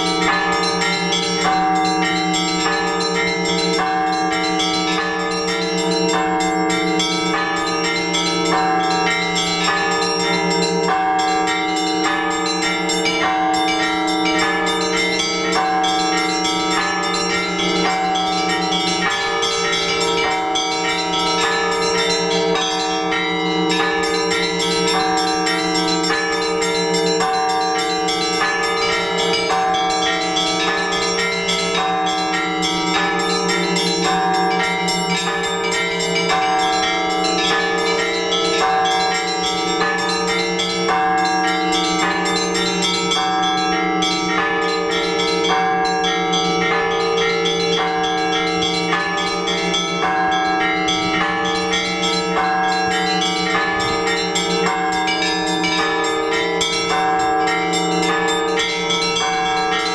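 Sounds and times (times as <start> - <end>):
large bells humming: 0.0 - 59.9
small church bells chiming: 0.0 - 59.9.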